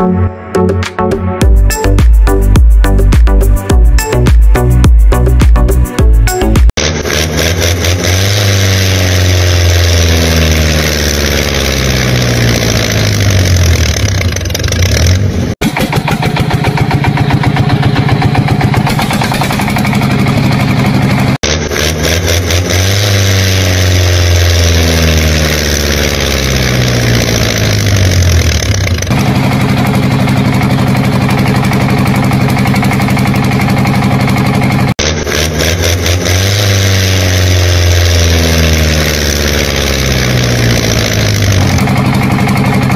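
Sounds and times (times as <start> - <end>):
engine revving and humming: 1.4 - 42.9.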